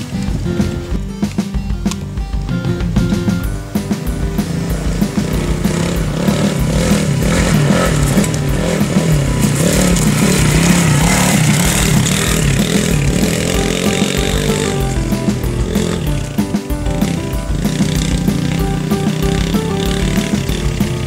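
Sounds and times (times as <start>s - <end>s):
dirt bike engine revving: 2.8s - 21.0s.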